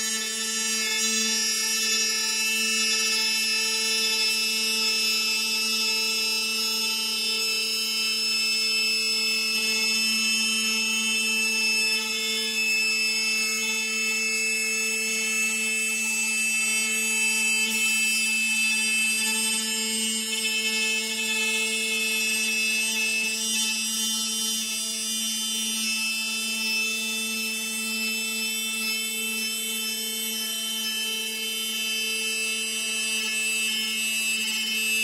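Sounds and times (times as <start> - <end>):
router spindle motor whining: 0.0 - 35.0.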